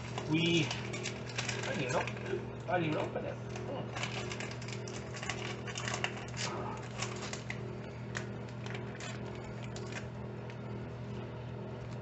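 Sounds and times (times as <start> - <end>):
plastic bag crinkling: 0.0 - 10.1
steady low hum: 0.0 - 12.0.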